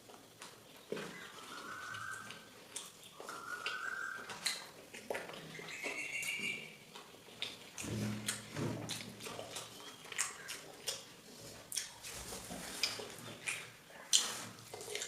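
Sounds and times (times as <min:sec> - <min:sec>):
wet chewing and lip smacks: 0:01.4 - 0:15.0.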